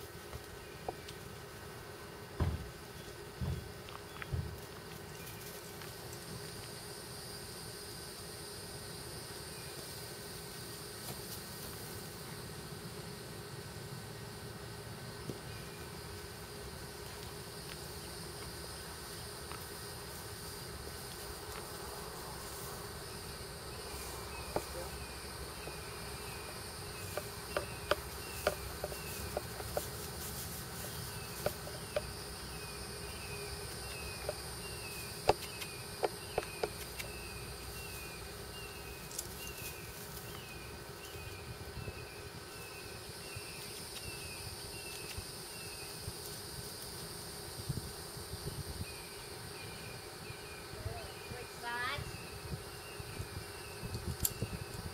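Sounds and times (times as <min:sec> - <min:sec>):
insects chirping and buzzing: 0:00.0 - 0:54.9.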